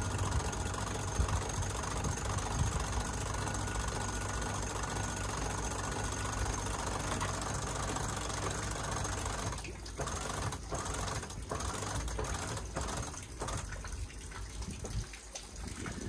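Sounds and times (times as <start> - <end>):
electric winch motor running: 0.0 - 13.9.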